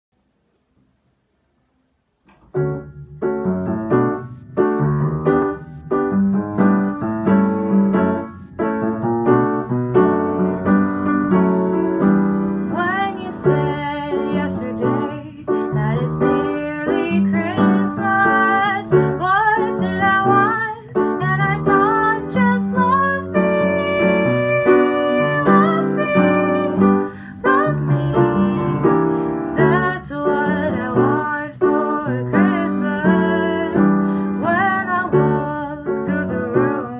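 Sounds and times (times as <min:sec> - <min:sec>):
upright piano playing: 0:02.4 - 0:36.9
higher melody with sliding pitches: 0:02.5 - 0:36.9.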